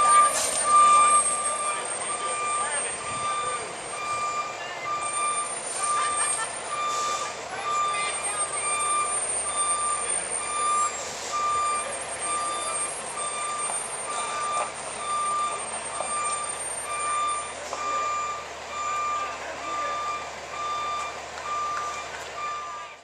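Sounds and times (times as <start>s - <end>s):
reversing alarm beeping: 0.0s - 23.0s
truck engine hum: 0.0s - 23.0s.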